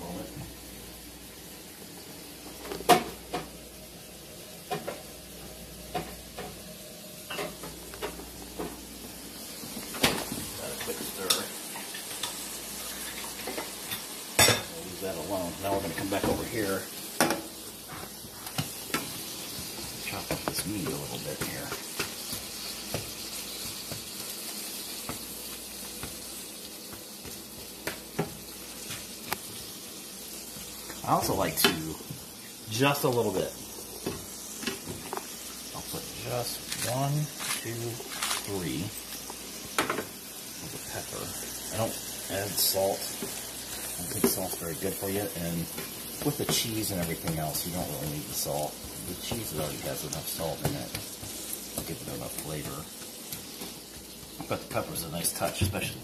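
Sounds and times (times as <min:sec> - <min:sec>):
food sizzling: 0:00.0 - 0:56.0.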